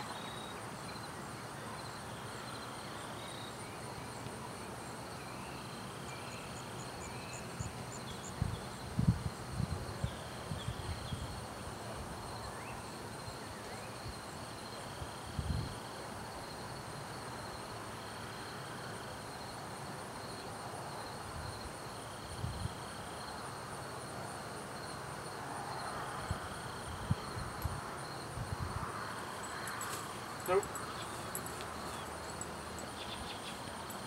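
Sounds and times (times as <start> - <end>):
faint insect chirp: 0.0 - 34.0
insects trilling: 0.0 - 34.0.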